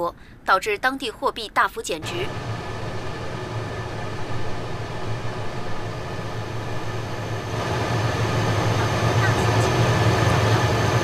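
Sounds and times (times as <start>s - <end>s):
industrial exhaust fan humming: 0.0s - 11.0s.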